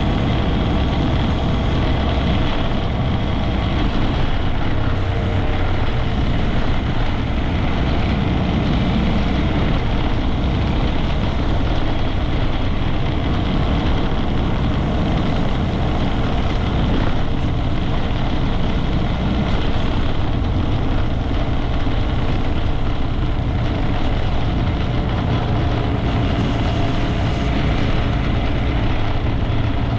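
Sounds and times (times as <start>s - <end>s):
motorcycle engine running: 0.0s - 29.9s
wind and road noise: 0.0s - 29.9s.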